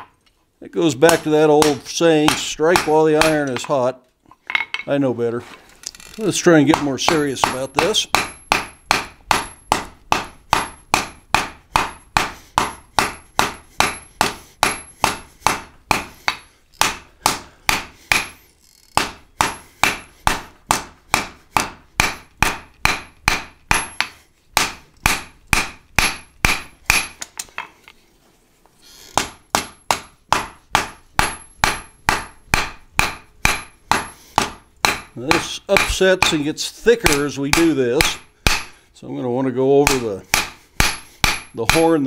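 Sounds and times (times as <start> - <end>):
hammer striking hot steel on anvil: 1.1 - 3.7, 6.7 - 18.4, 19.0 - 27.3, 29.2 - 38.8, 39.8 - 42.0.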